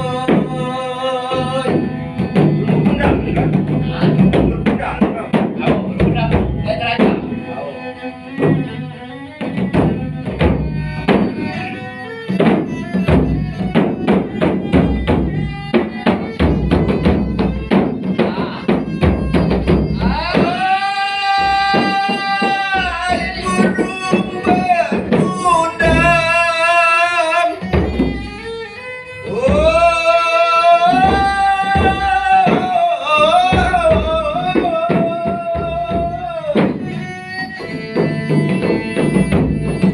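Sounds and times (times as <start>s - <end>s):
hand drum rhythm: 0.0s - 7.6s, 8.3s - 39.9s.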